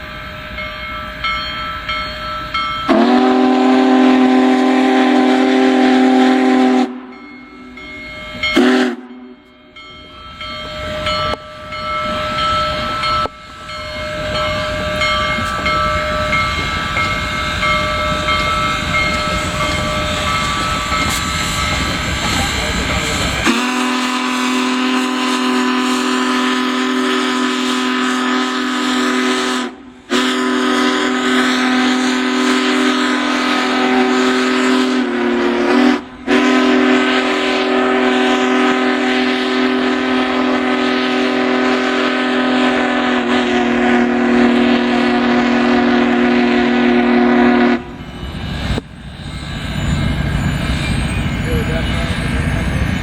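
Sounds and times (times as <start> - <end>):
steam locomotive chime whistle: 0.0 - 53.0.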